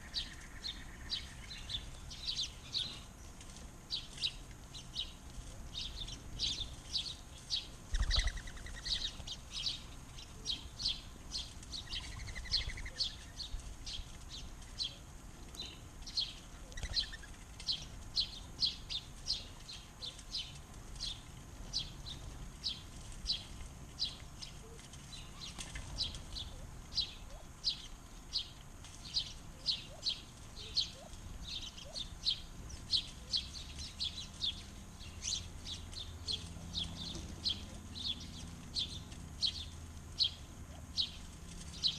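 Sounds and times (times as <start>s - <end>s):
birds chirping: 0.0s - 41.9s
lower bird calls: 0.0s - 41.9s.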